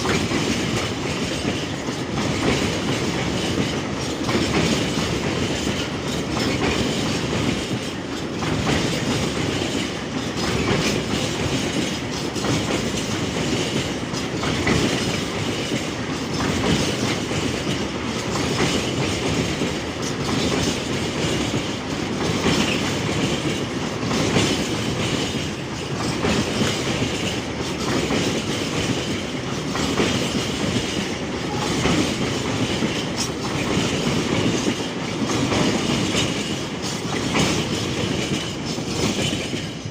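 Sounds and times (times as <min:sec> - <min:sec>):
train wheels clickety-clack: 0:00.0 - 0:39.9.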